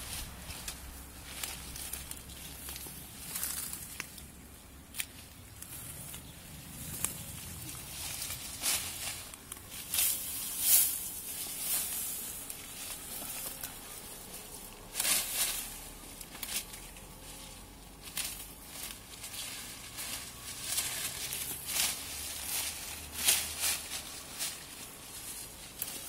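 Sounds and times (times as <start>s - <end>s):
leaves rustling: 0.0s - 26.0s.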